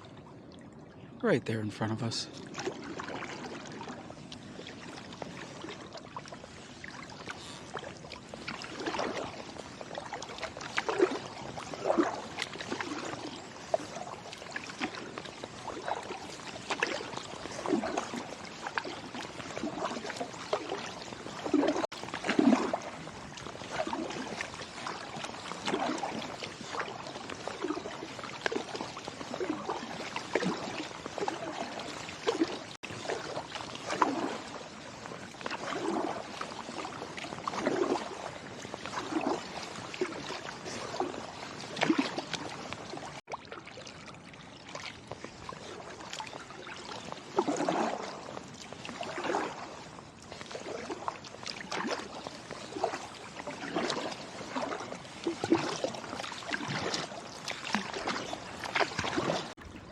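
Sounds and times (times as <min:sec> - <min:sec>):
paddle splashing in water: 0:01.8 - 0:59.9
water dripping off paddle: 0:02.4 - 0:59.9.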